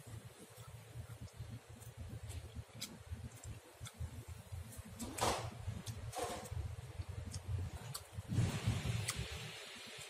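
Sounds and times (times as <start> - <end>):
person chewing food: 0.2 - 10.0.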